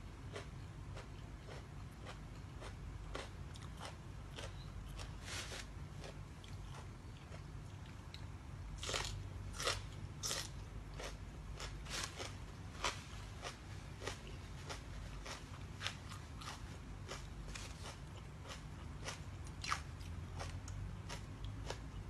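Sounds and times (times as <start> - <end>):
person chewing crunchy food: 0.2 - 22.0.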